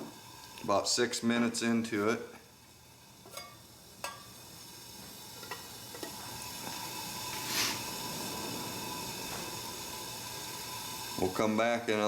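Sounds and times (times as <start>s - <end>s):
pot of water hissing: 0.0s - 12.0s.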